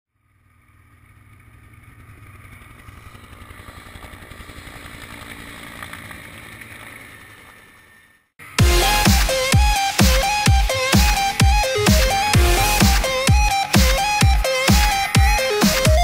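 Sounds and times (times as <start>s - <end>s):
helicopter engine: 0.1s - 16.0s
helicopter rotor beating: 0.1s - 16.0s.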